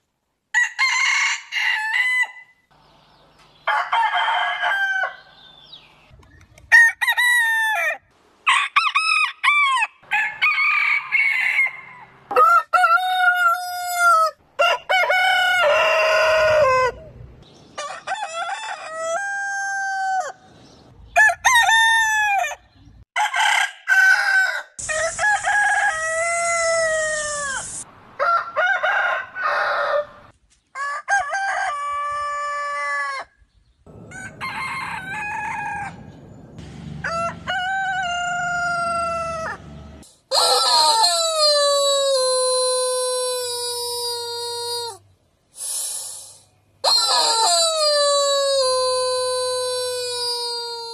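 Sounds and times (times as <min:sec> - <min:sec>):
roosters crowing: 0:00.6 - 0:02.6, 0:03.6 - 0:05.7, 0:06.7 - 0:17.2, 0:17.8 - 0:20.5, 0:21.1 - 0:33.3, 0:33.9 - 0:45.0, 0:46.8 - 0:50.9.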